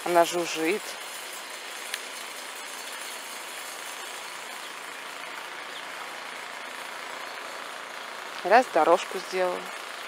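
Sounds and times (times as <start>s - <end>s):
snowblower engine running: 0.0s - 10.0s.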